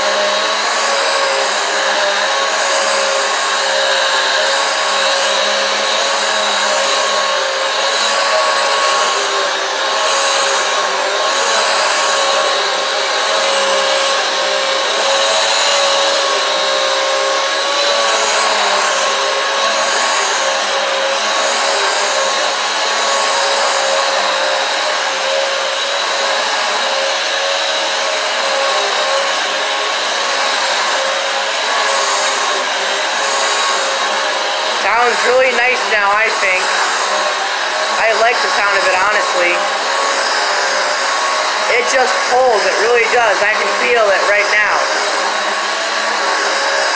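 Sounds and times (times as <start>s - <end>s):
vacuum cleaner whining: 0.0s - 46.9s.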